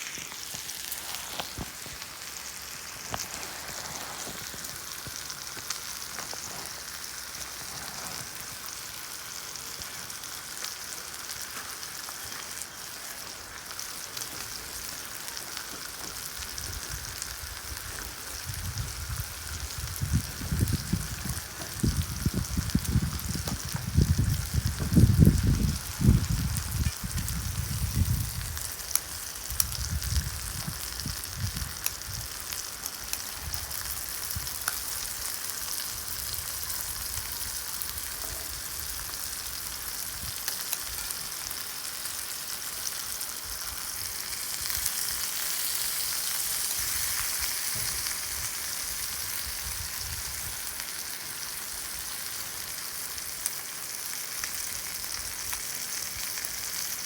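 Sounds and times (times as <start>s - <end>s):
beef sizzling in a pan: 0.0s - 57.0s.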